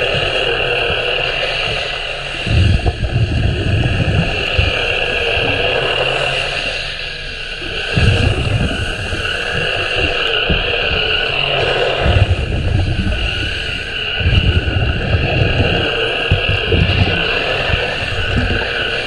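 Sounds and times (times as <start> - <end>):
low rumbling surges: 0.0 - 19.0
underwater brush motor whine: 0.0 - 19.0.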